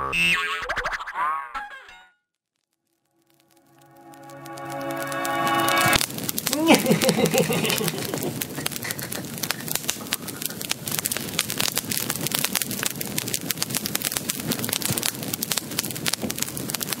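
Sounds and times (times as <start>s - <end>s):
fire crackling: 2.6s - 17.0s.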